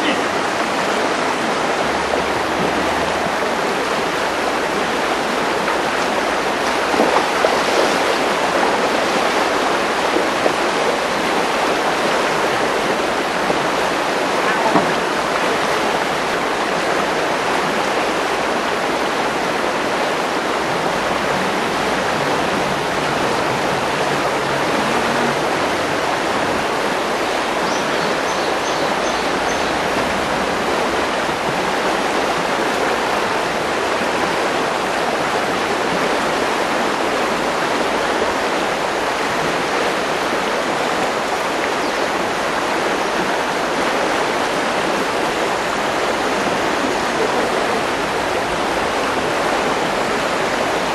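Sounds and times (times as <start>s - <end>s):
river rushing: 0.0s - 50.9s.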